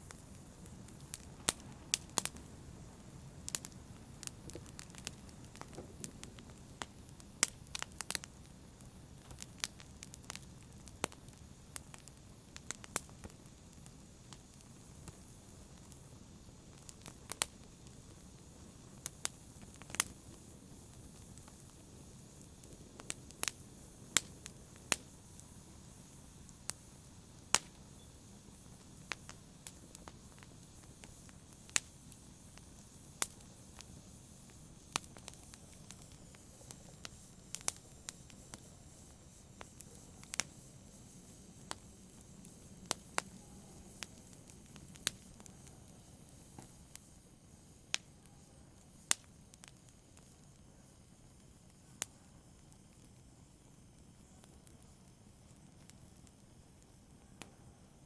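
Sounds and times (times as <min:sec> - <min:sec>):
low hiss of burning: 0:00.0 - 0:58.0
wood fire crackling: 0:00.0 - 0:58.0.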